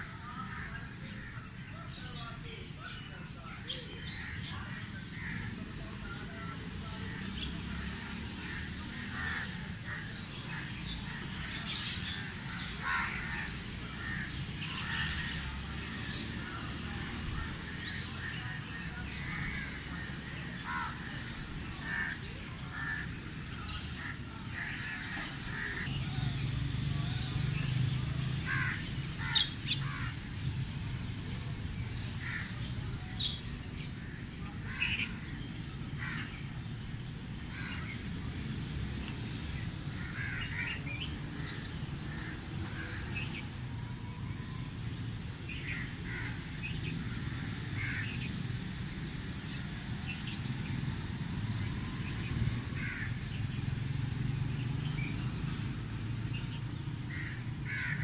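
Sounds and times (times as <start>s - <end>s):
flock of birds calling: 0.0s - 30.5s, 31.9s - 38.4s, 39.0s - 43.8s, 45.5s - 48.5s, 49.5s - 53.9s, 56.3s - 58.0s.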